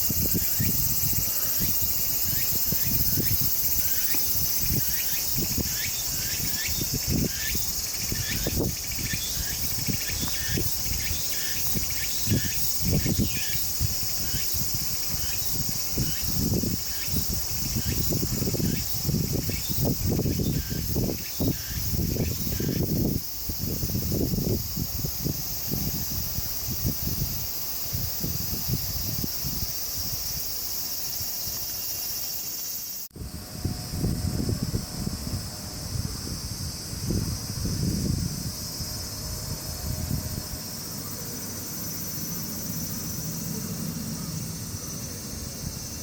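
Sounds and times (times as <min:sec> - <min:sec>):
insects shrilling: 0:00.0 - 0:33.1, 0:36.0 - 0:46.0
short insect chirp: 0:00.0 - 0:46.0.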